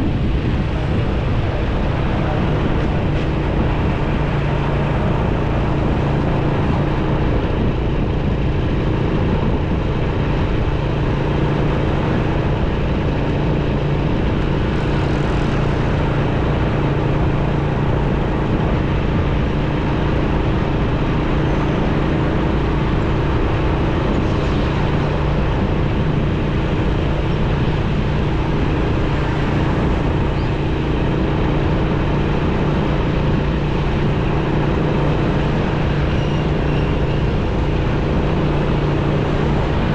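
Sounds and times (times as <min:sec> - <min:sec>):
city traffic: 0:00.0 - 0:39.9
motorcycle engine cruising: 0:00.0 - 0:39.9
wind and road noise: 0:00.0 - 0:39.9.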